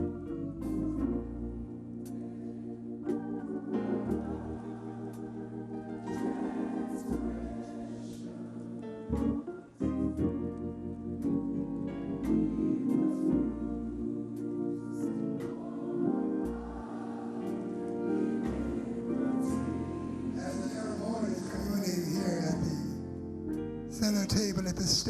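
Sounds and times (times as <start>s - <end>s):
organ playing gospel chords: 0.0s - 25.0s
piano playing chords: 0.0s - 25.0s.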